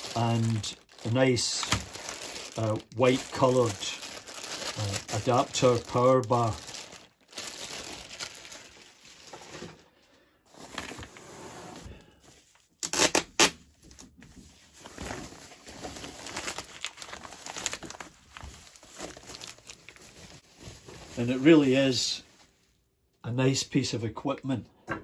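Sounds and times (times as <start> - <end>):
plastic bag and foam rustling: 0.0 - 9.8, 10.5 - 13.1, 13.8 - 22.9.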